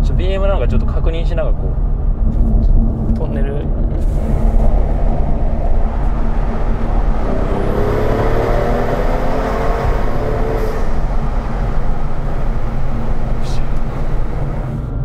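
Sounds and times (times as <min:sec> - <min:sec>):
car engine in tunnel: 0:00.0 - 0:15.0.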